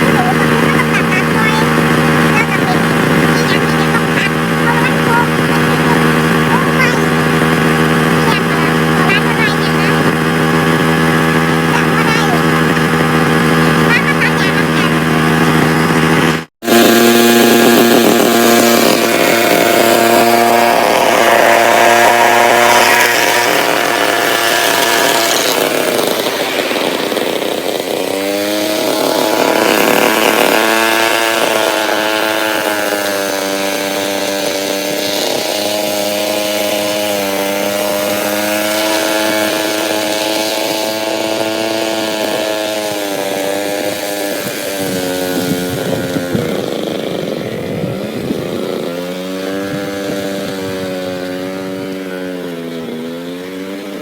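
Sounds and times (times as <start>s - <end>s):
petrol grass trimmer cutting grass: 0.0s - 54.0s.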